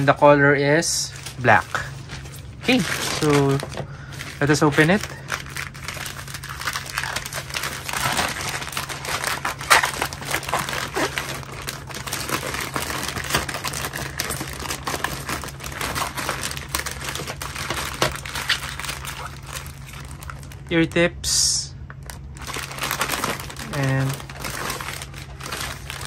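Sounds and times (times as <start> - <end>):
plastic mailer bag crinkling: 0.0 - 21.1, 21.9 - 26.0.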